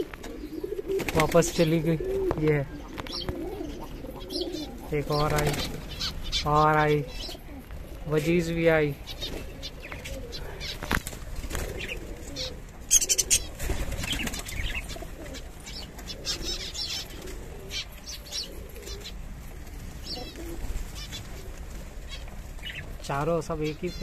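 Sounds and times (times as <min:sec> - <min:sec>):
wings flapping: 0:00.0 - 0:06.5, 0:07.5 - 0:24.0
faint low pigeon coos: 0:00.0 - 0:08.2, 0:08.9 - 0:19.3, 0:20.0 - 0:22.9.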